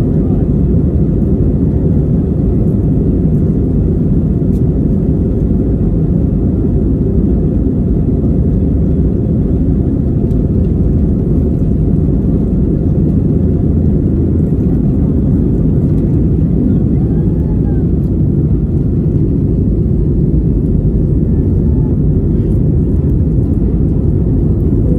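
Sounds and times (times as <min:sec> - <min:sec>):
airplane cabin rumble: 0:00.0 - 0:24.9.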